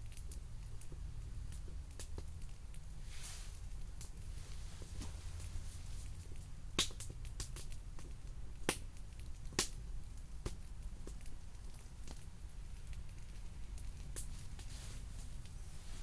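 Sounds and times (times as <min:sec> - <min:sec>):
burning wood popping: 0:00.0 - 0:16.0
campfire crackling: 0:00.0 - 0:16.0.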